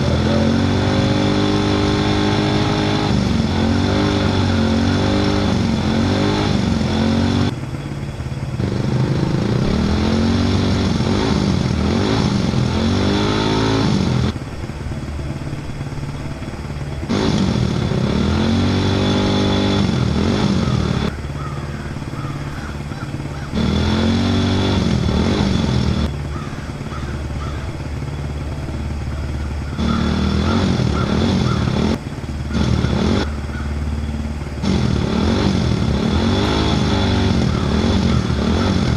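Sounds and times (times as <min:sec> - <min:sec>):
small motor revving: 0:00.0 - 0:07.6, 0:08.6 - 0:14.4, 0:17.0 - 0:38.9.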